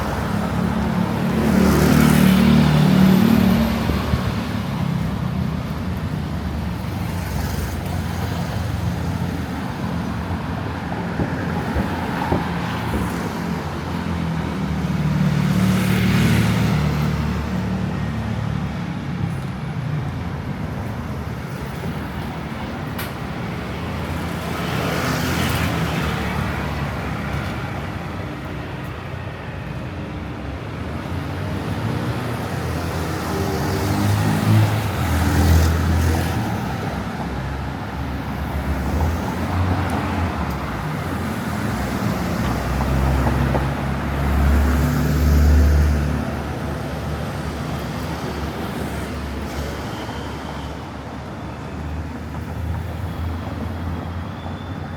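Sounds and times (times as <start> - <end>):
traffic rumble: 0.0 - 54.9
vehicles passing close by: 0.0 - 54.9.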